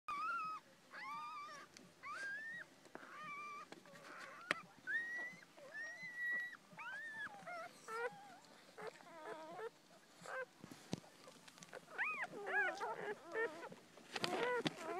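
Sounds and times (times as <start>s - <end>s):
puppies whimpering high-pitched: 0.1s - 10.5s, 11.2s - 14.9s.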